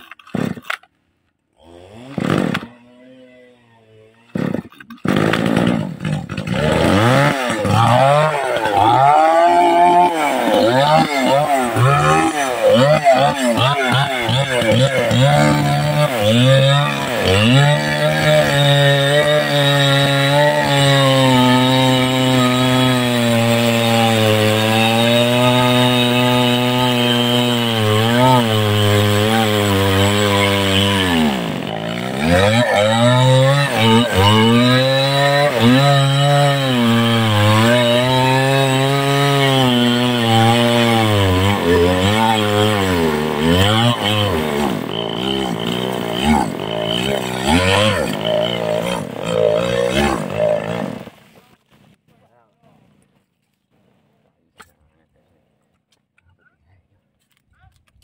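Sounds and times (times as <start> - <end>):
chainsaw cutting tree trunk: 0.0 - 0.9, 1.5 - 51.2.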